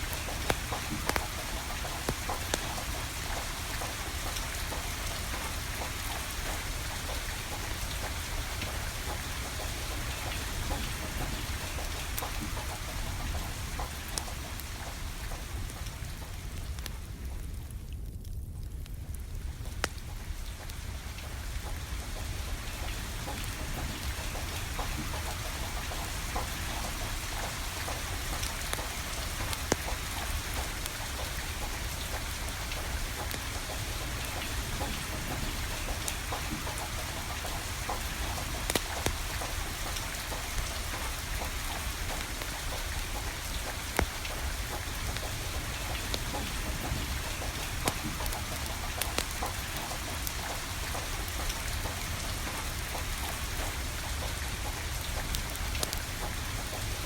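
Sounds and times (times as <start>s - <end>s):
steady rain falling: 0.0s - 57.0s
wood fire crackling: 0.0s - 57.0s.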